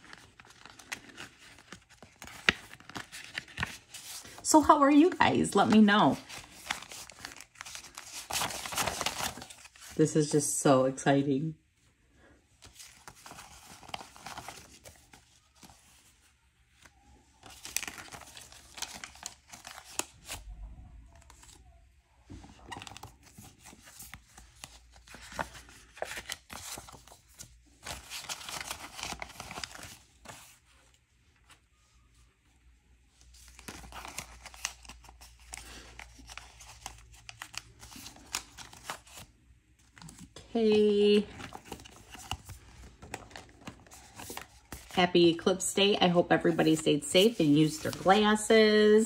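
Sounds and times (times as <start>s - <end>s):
banknotes and envelopes rustling: 0.0s - 10.2s, 12.6s - 32.3s, 33.0s - 49.0s.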